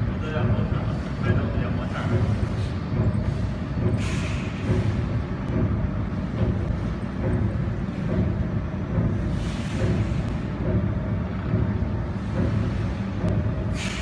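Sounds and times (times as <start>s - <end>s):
pulsing machine hum: 0.0s - 14.0s.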